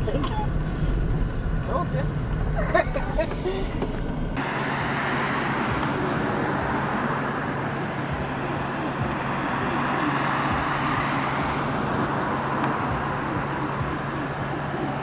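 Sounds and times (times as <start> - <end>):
broad rushing noise: 0.0 - 15.0
engine humming: 0.0 - 15.0.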